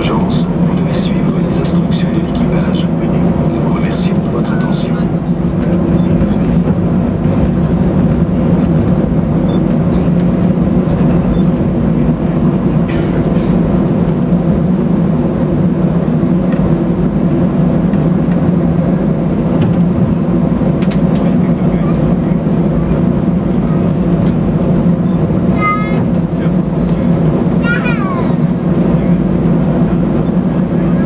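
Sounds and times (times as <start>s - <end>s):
aircraft cabin engine hum: 0.0s - 31.0s.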